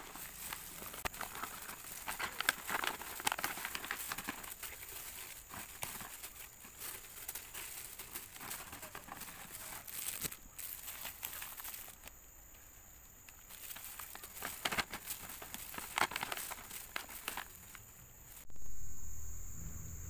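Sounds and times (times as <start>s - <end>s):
fried noodles crackling: 0.0s - 12.1s, 13.3s - 18.5s
plastic crinkling: 0.0s - 12.2s, 13.3s - 18.5s.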